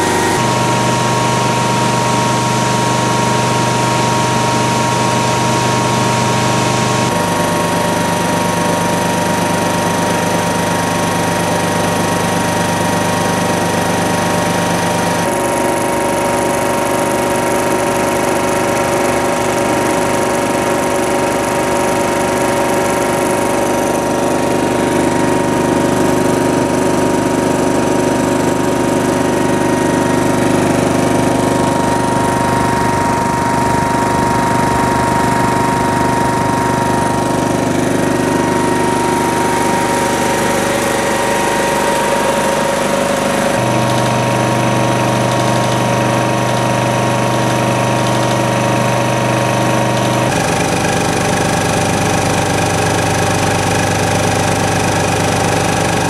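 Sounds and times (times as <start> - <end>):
air compressor running: 0.0 - 56.0.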